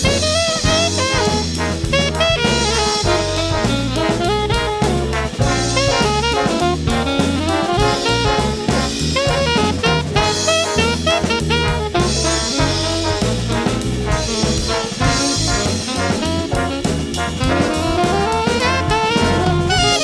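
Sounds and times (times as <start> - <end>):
big band swing jazz: 0.0 - 20.0.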